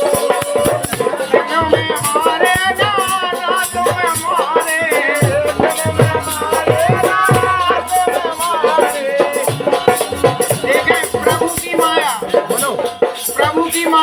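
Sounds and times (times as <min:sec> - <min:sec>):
sliding pitch folk melody: 0:00.0 - 0:13.6
drum strokes: 0:00.0 - 0:14.0
fast jingling rattle: 0:00.0 - 0:14.0.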